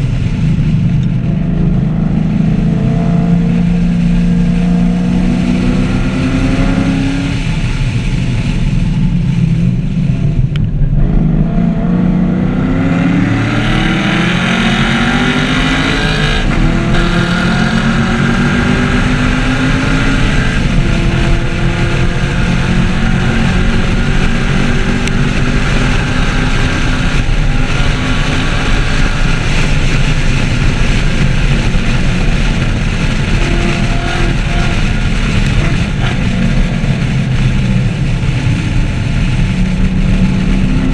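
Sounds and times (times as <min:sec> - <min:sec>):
car engine running hard: 0:00.0 - 0:40.9.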